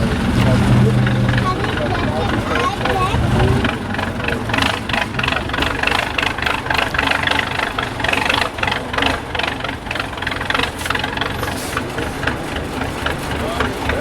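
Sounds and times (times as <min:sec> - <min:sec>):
diesel truck engine idling: 0:00.0 - 0:14.0
rattling clatter: 0:00.0 - 0:14.0.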